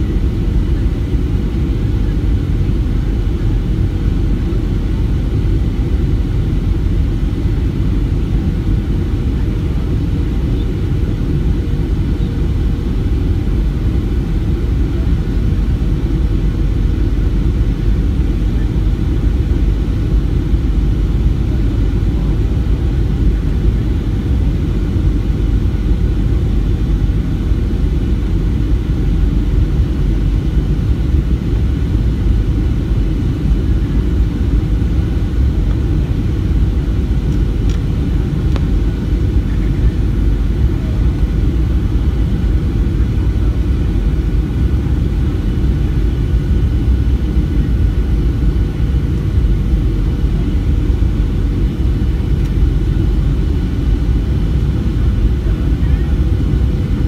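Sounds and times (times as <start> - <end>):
deep jet engine rumble: 0.0 - 57.0.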